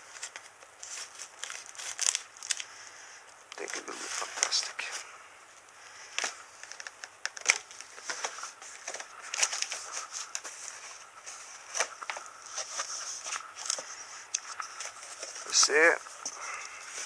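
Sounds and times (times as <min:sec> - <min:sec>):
packaging crackling and crinkling: 0:00.0 - 0:17.0.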